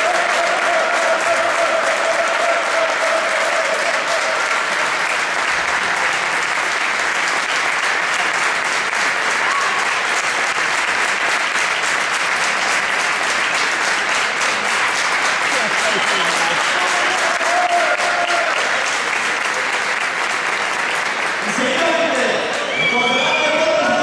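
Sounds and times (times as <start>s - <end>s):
crowd applauding: 0.0s - 24.0s.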